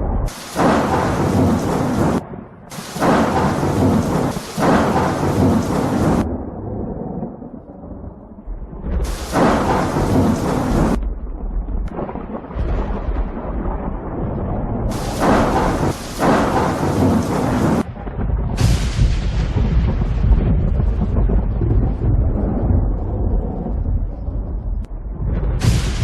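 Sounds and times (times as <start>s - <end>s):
rain: 0.0s - 26.0s
rolling thunder: 0.0s - 26.0s.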